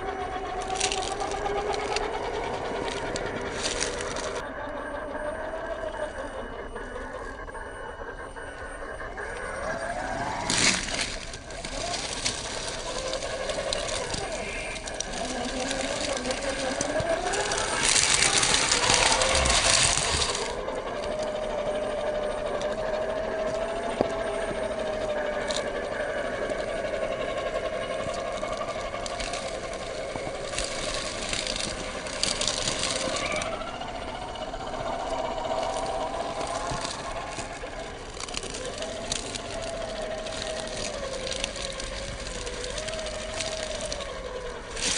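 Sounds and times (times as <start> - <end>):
toy truck electric motor whining: 0.0 - 44.9.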